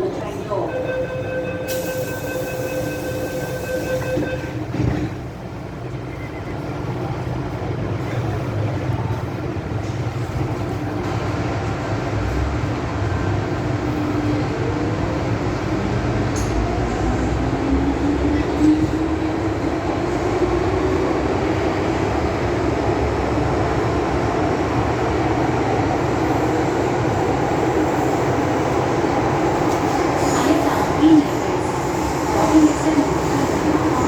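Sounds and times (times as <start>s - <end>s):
train wheels rumbling on rails: 1.7s - 34.0s.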